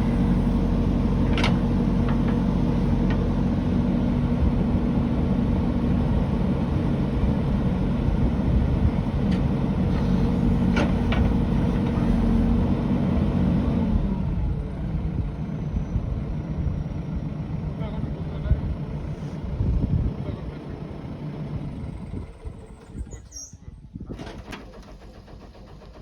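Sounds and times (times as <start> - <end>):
heavy machine engine running: 0.0 - 23.2.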